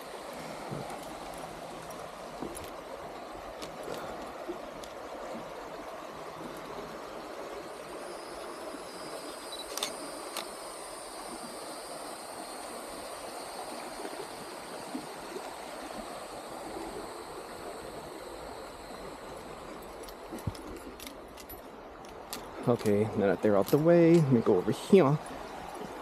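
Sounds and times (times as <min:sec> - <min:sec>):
river water rushing over rapids: 0:00.0 - 0:26.0.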